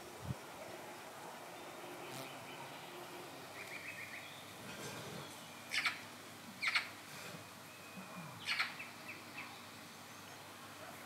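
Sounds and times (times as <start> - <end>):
faint outdoor hiss: 0.0 - 11.0
songbirds chirping: 0.0 - 11.0.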